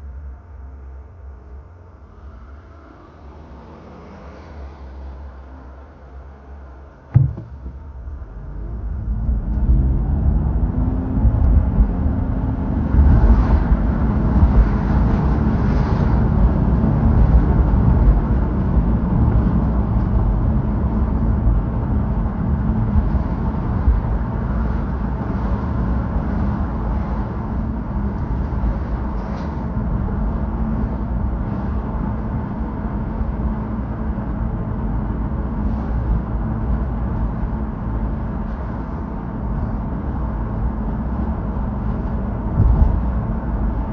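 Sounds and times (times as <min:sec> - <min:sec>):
car engine and tyre rumble: 0:01.9 - 0:43.9.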